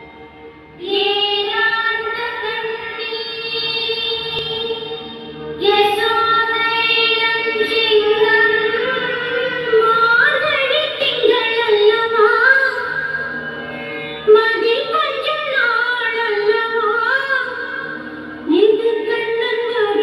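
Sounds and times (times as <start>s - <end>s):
woman singing: 0.8s - 5.0s, 5.6s - 13.2s, 14.3s - 20.0s.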